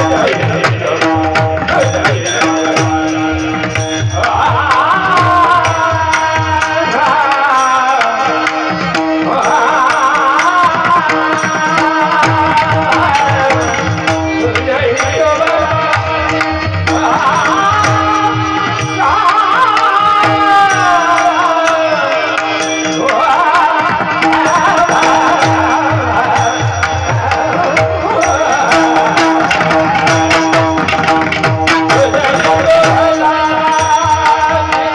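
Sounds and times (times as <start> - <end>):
person singing devotional song: 0.0 - 34.9
tabla strokes: 0.0 - 34.9.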